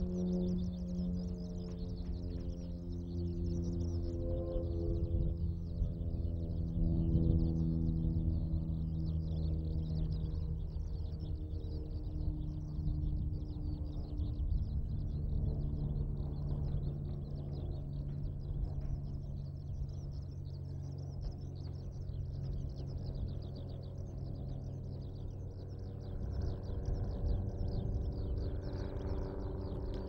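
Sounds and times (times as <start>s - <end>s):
low engine hum: 0.0s - 30.0s
skylark song: 0.0s - 30.0s.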